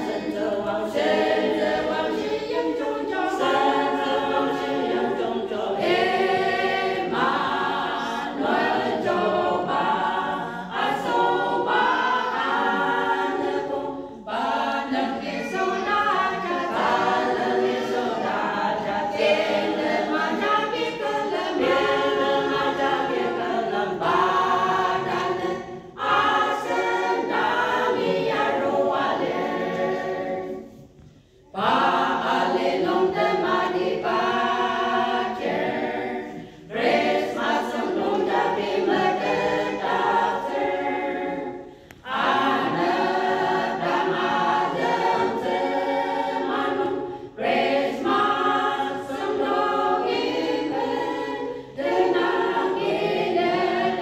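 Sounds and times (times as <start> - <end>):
women's choir singing a hymn: 0.0 - 54.0.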